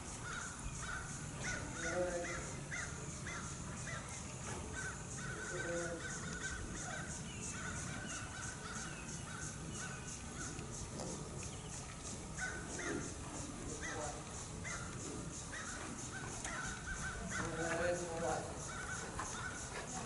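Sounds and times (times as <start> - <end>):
steady high pulsing chirping: 0.0 - 20.0
crows cawing: 0.2 - 10.6, 12.4 - 19.8.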